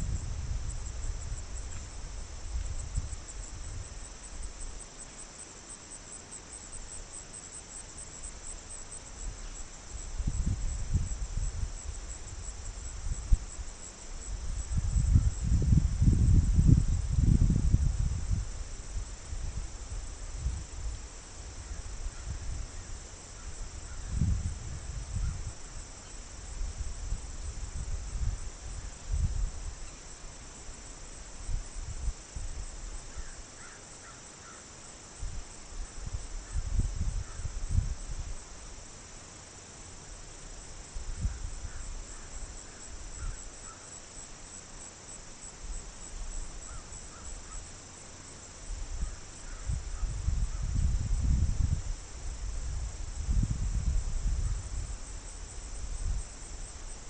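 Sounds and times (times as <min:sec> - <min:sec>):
crickets and insects chirping: 0:00.0 - 0:57.0.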